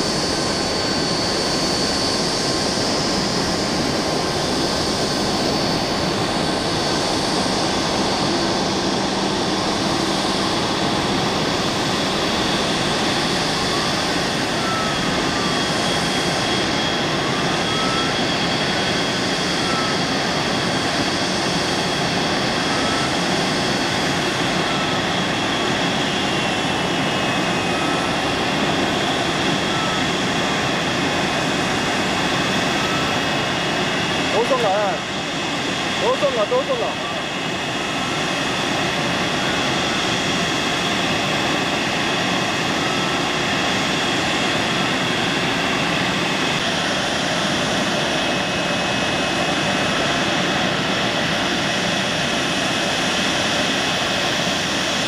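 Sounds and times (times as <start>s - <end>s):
jet engines rushing with whine: 0.0s - 55.0s.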